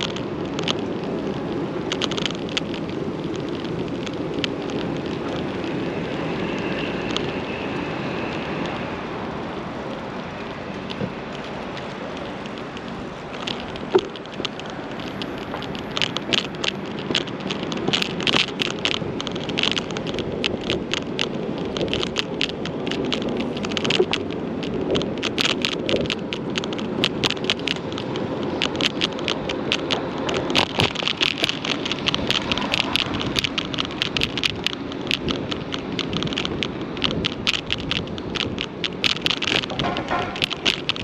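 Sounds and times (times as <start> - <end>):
wheels rolling over paving stones: 0.0 - 41.0.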